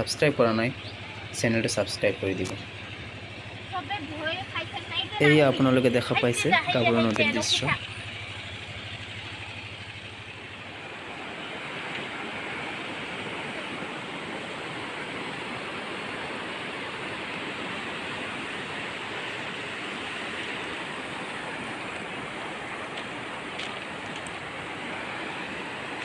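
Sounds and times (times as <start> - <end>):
river rushing in flood: 0.0 - 26.0.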